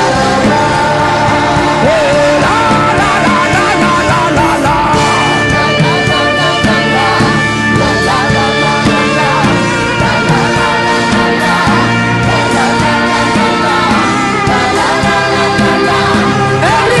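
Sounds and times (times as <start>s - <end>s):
slow worship music chords: 0.0s - 17.0s.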